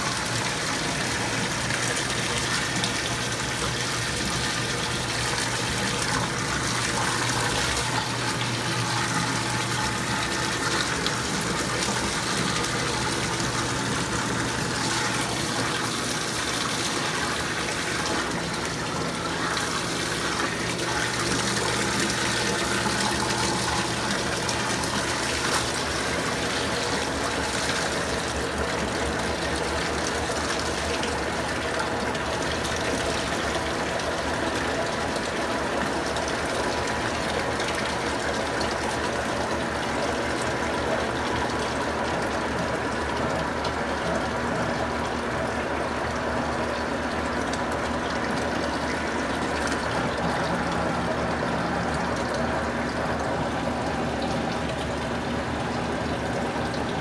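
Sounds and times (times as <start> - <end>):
low machine hum: 0.0 - 57.0
washing machine rushing water: 0.0 - 57.0.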